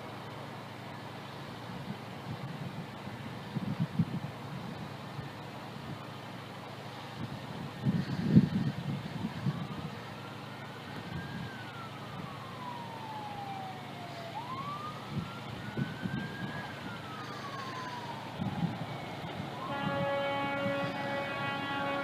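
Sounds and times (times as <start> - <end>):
emergency vehicle siren wailing: 0.0 - 22.0.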